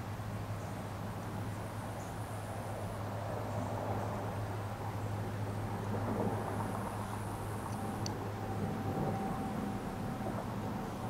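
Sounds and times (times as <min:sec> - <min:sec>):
distant engine noise: 0:00.0 - 0:11.0
distant traffic hum: 0:00.0 - 0:11.0.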